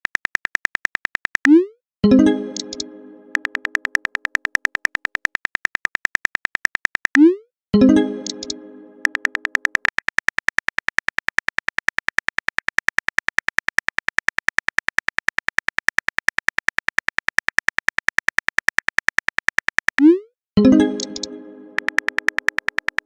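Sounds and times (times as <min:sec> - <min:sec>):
smartphone keyboard typing clicks: 0:00.0 - 0:01.6, 0:02.6 - 0:07.3, 0:08.2 - 0:20.1, 0:21.0 - 0:23.0.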